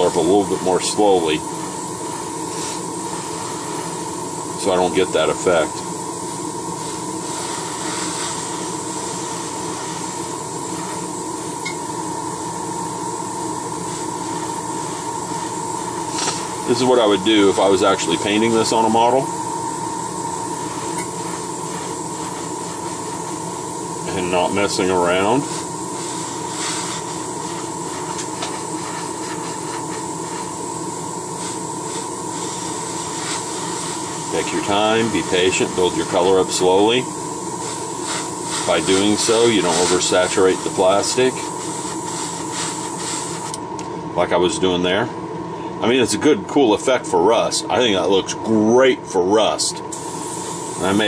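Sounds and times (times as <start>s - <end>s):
airbrush hissing: 0.0s - 43.6s, 49.9s - 51.0s
air compressor running: 0.0s - 43.8s, 49.9s - 51.0s
hum with high tone: 0.0s - 46.0s.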